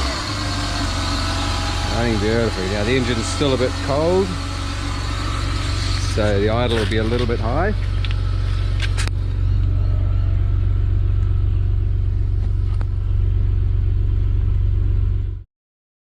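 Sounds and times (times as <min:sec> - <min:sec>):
car engine idling: 0:00.0 - 0:15.4.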